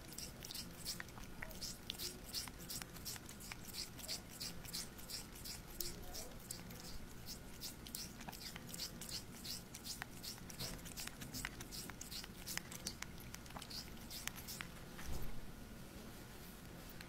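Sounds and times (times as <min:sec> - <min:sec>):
cat licking wet tongue clicks: 0:00.0 - 0:14.8.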